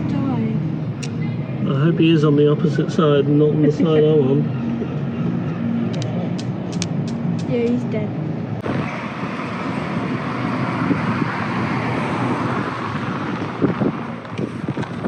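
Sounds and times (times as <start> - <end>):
road traffic hiss and rumble: 0.0 - 15.0.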